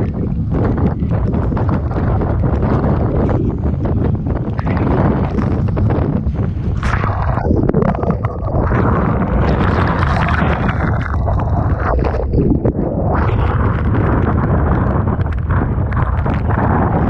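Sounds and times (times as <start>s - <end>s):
rough sea waves breaking: 0.0s - 17.0s
wind buffeting microphone: 0.0s - 17.0s.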